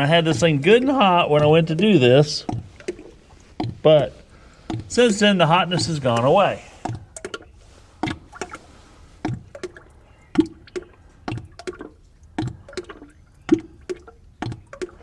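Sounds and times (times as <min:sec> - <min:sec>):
oil splashing into drain pan: 0:00.0 - 0:15.0.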